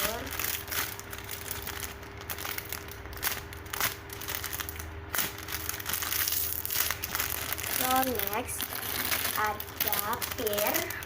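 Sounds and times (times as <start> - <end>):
faint steady hum: 0.0 - 11.0
plastic crinkling: 0.0 - 11.0.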